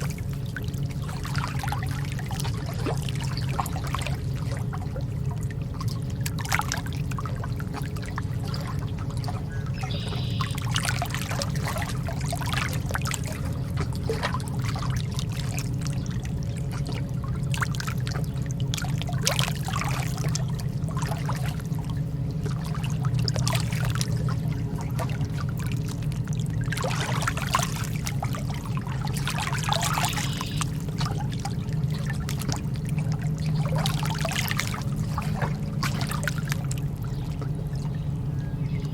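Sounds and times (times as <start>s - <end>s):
lake water lapping: 0.0s - 38.9s
low rumble: 0.0s - 38.9s
soft water splashes: 0.0s - 38.9s.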